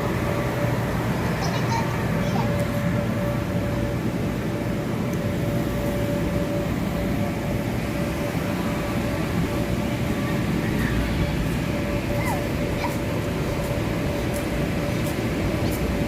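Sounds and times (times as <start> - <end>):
electric blower fans droning: 0.0 - 16.0
faint steady hum: 0.0 - 16.0.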